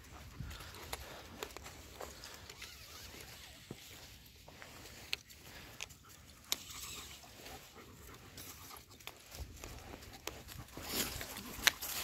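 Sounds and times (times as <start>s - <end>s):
dogs panting: 0.0s - 12.0s
paws on dry leaves and gravel: 0.0s - 12.0s.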